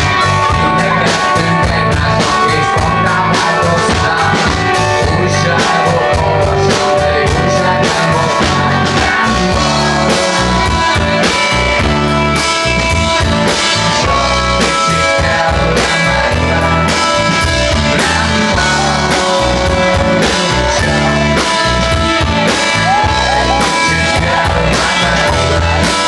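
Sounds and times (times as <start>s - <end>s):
live rock band playing loud: 0.0s - 26.0s.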